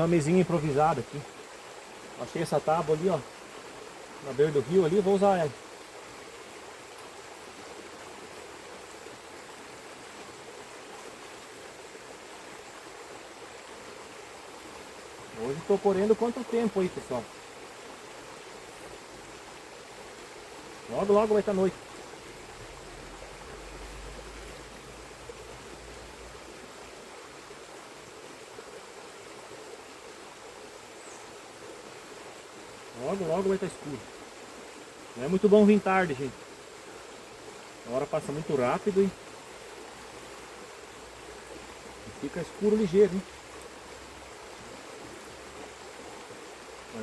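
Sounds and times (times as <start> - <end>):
shallow river flowing: 0.0 - 47.0.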